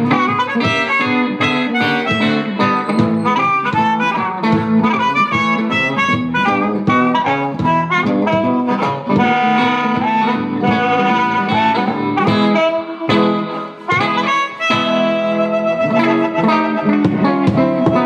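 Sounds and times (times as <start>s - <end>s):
harmonica bending notes: 0.0s - 18.0s
picked guitar: 0.0s - 18.0s.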